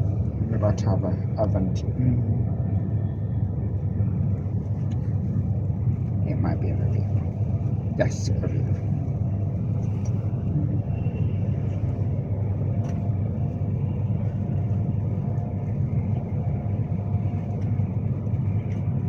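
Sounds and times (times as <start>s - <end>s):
train interior rumble: 0.0s - 19.0s.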